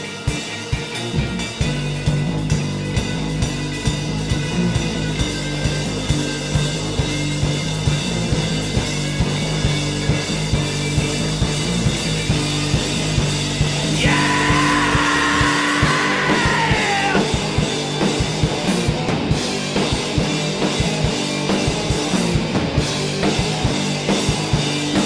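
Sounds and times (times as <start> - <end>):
bass guitar: 0.0 - 25.0
drum kit beat: 0.0 - 25.0
electric guitars: 0.0 - 25.0.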